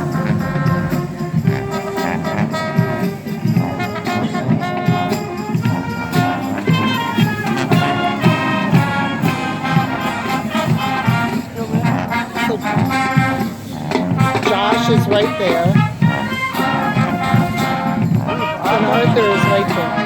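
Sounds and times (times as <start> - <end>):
brass sustaining chords: 0.0 - 20.0
steady drum beat: 0.0 - 20.0.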